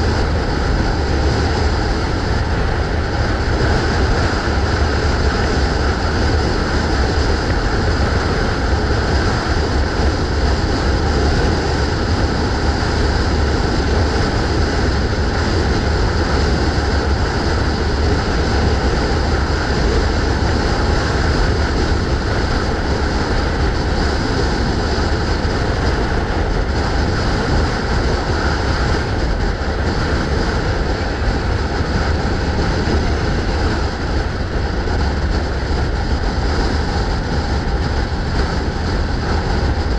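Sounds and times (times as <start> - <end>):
motorbike road noise: 0.0 - 39.9
wind rumble on microphone: 0.0 - 39.9.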